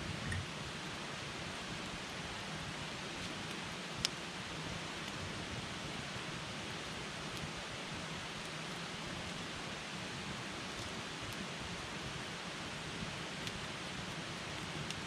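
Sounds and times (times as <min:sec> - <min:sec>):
campfire hissing: 0:00.0 - 0:15.0
faint fire crackles: 0:00.0 - 0:15.0.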